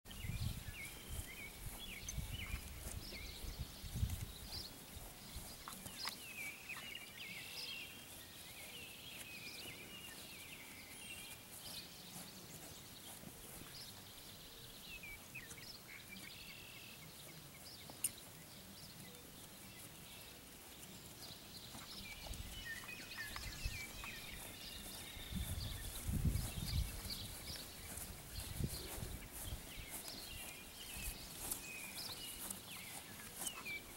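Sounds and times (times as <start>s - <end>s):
hooves thudding on turf: 0.0s - 33.9s
small birds chirping: 0.1s - 33.9s.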